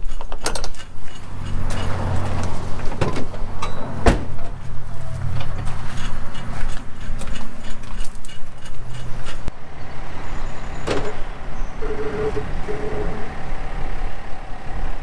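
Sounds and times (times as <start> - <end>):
low motor hum: 1.2 - 15.0.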